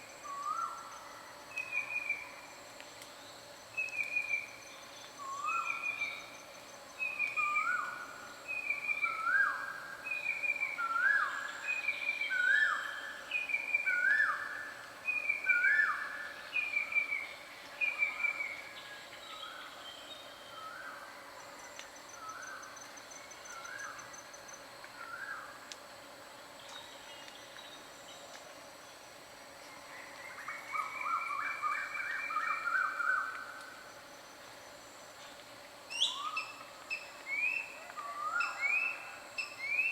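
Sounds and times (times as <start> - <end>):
high insect whine: 0.0 - 39.9.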